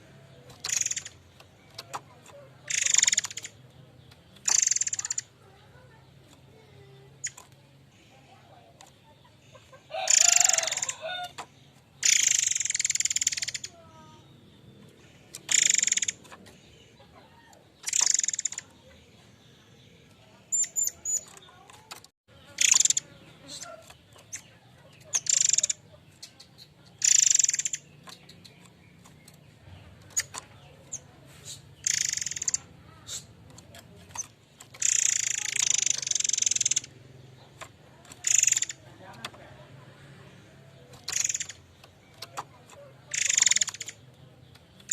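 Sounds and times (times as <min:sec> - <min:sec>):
bird harsh rasping calls: 0:00.0 - 0:18.9, 0:20.4 - 0:44.9.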